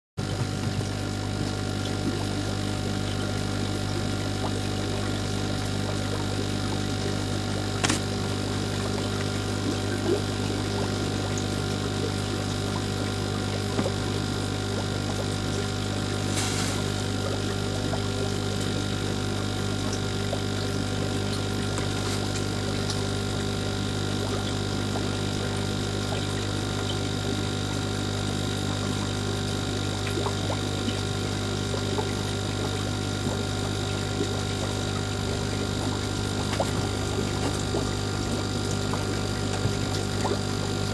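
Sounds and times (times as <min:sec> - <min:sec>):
aquarium pump humming: 0:00.2 - 0:40.9.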